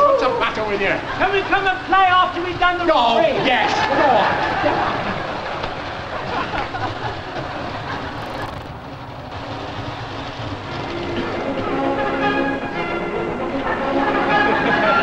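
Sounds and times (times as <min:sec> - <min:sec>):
train rattling along track: 0:00.0 - 0:15.0.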